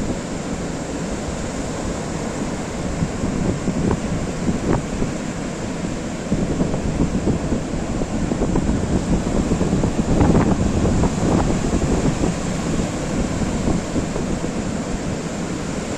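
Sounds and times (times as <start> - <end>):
sea waves breaking: 0.0 - 15.9
wind rumbling on microphone: 0.0 - 15.9.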